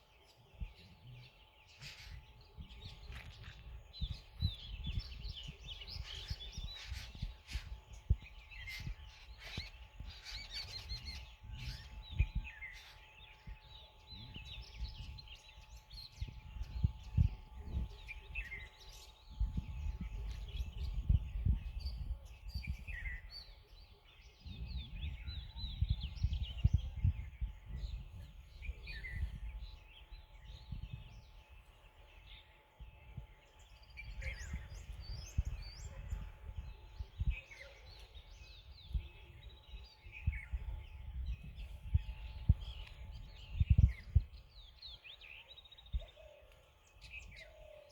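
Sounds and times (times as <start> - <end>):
birds chirping and calling: 0.0 - 47.9
low rumbling wind gusts: 0.6 - 46.3.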